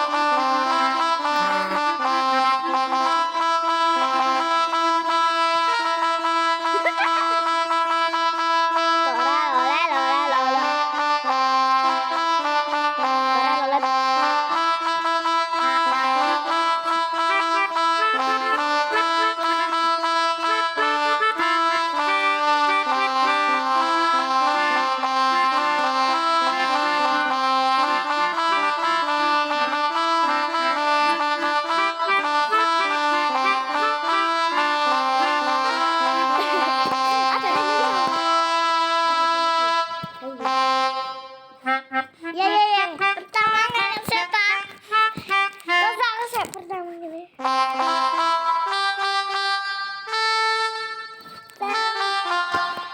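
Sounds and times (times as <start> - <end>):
reedy keyboard melody: 0.0 - 52.9.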